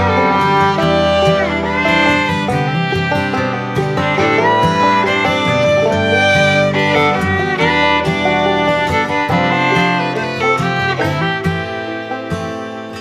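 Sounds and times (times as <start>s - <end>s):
fiddle: 0.0s - 13.0s
guitar: 0.0s - 13.0s.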